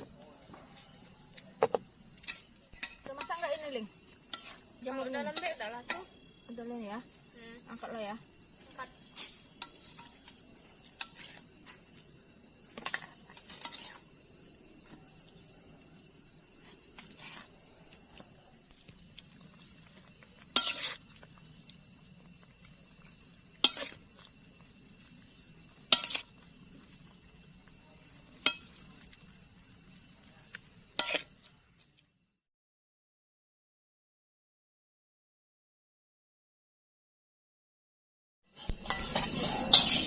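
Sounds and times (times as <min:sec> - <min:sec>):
insect chorus: 0:00.0 - 0:32.5, 0:38.5 - 0:40.0.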